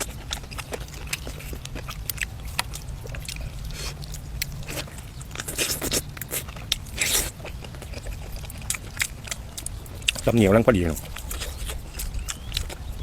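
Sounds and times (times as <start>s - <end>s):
chewing and crunching: 0.0s - 13.0s
low steady hum: 0.0s - 13.0s.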